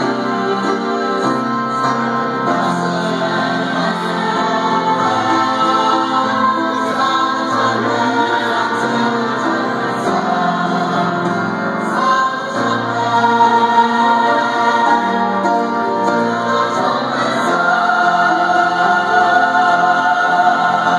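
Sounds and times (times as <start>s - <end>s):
choir singing: 0.0s - 20.9s.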